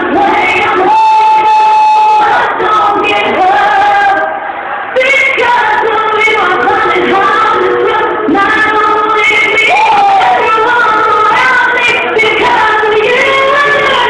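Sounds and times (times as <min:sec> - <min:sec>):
several voices singing loudly: 0:00.0 - 0:14.0.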